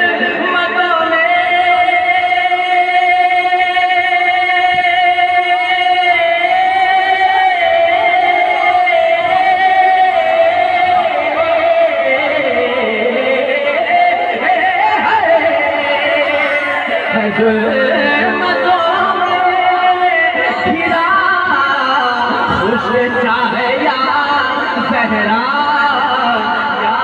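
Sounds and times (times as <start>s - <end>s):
man singing into a microphone: 0.0s - 27.0s.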